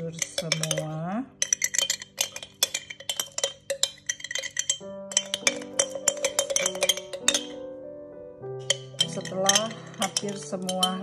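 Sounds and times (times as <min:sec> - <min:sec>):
spoon clinking in glass jar: 0:00.0 - 0:07.6, 0:08.6 - 0:11.0.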